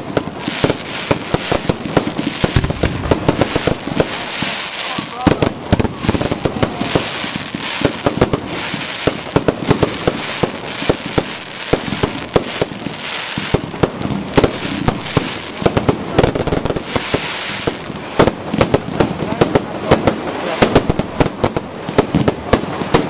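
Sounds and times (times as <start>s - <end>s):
crackling hiss: 0.0s - 23.0s
fireworks bangs and pops: 0.0s - 23.0s.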